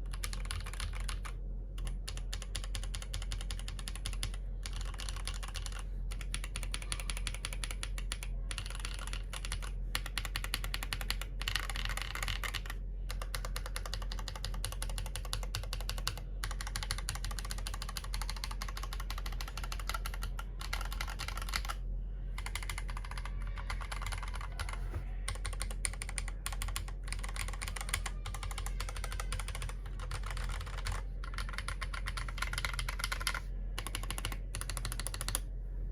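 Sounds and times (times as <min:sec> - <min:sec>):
mechanical keyboard typing: 0:00.0 - 0:21.8, 0:22.4 - 0:35.4.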